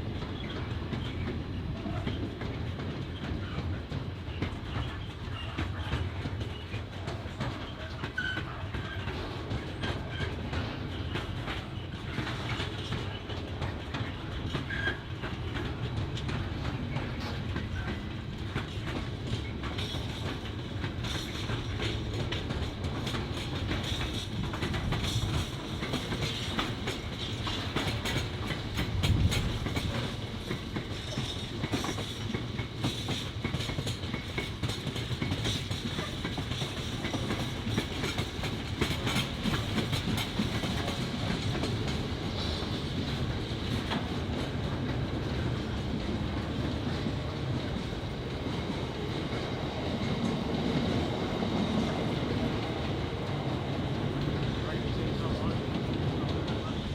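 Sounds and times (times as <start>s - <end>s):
low train rumble: 0.0s - 56.9s
train wheels clattering over rail joints: 0.0s - 56.9s.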